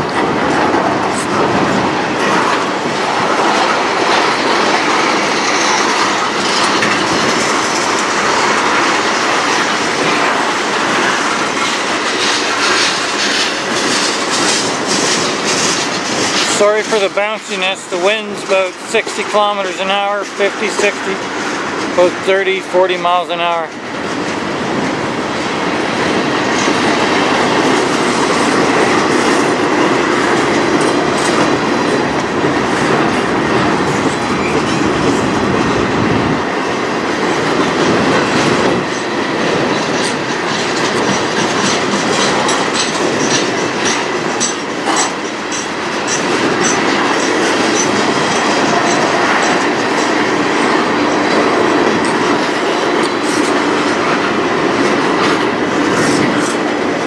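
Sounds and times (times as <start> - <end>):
wheels clicking over rail joints: 0.0 - 22.4, 23.1 - 57.0
steel wheels rolling on rail: 0.0 - 57.0.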